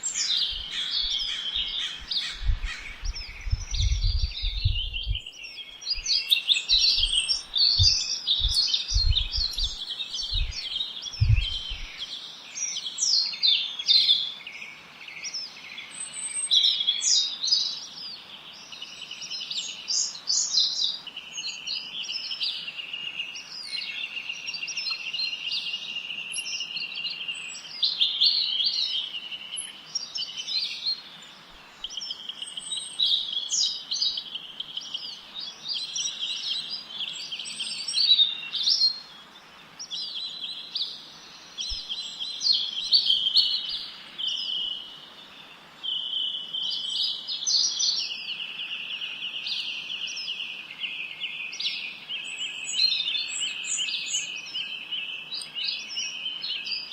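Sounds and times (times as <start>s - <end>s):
songbirds chirping: 0.0s - 56.9s
songbirds trilling: 0.0s - 56.9s.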